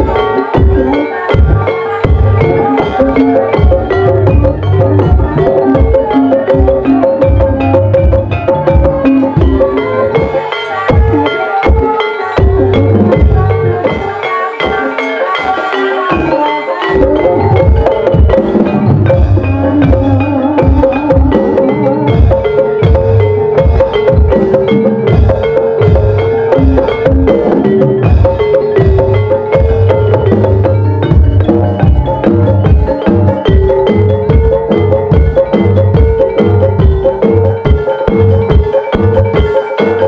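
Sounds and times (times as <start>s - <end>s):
drum beats: 0.0s - 40.0s
tuned mallet percussion melody: 0.0s - 40.0s.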